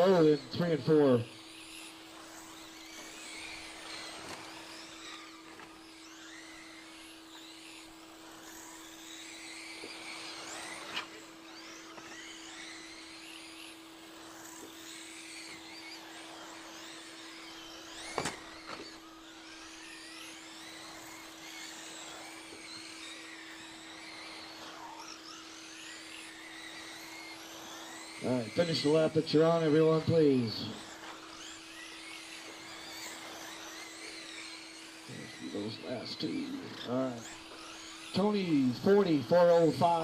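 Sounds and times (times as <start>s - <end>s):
electric rc truck motors whining: 0.0s - 40.0s
steady low hum: 0.0s - 40.0s.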